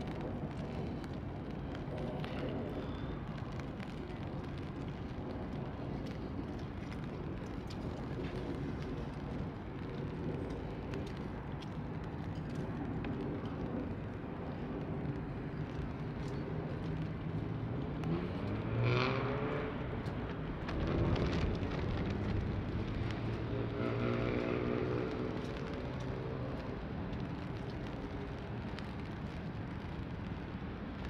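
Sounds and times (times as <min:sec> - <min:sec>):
distant traffic rumble: 0:00.0 - 0:31.0
light rain ticks: 0:00.0 - 0:31.0.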